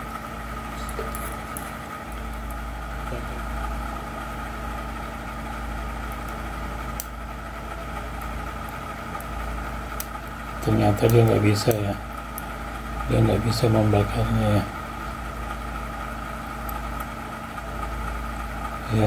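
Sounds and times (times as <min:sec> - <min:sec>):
steady hum with high whine: 0:00.0 - 0:19.0.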